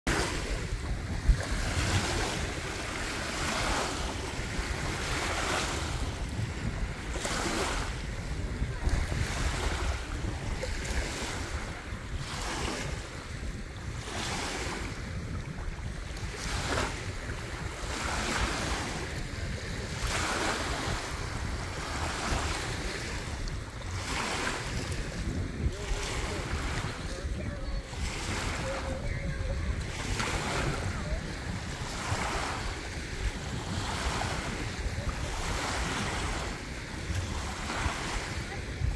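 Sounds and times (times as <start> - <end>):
waves washing over pebbles: 0.1 - 38.9
wind rumble on microphone: 0.1 - 38.9.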